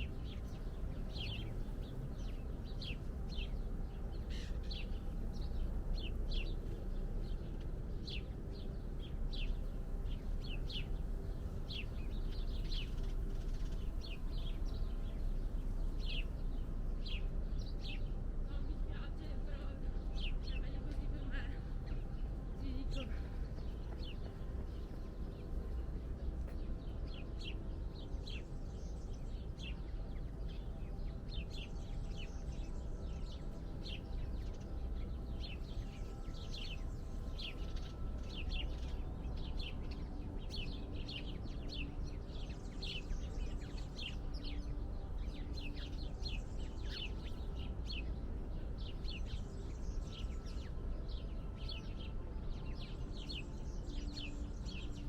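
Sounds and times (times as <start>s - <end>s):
steady low rumble: 0.0s - 54.9s
birds chirping: 0.0s - 55.0s.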